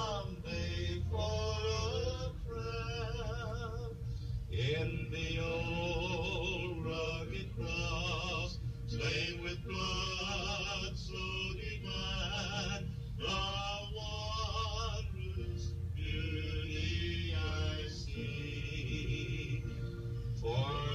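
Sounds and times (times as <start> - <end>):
man singing with vibrato: 0.0 - 20.9
steady low hum: 0.0 - 20.9.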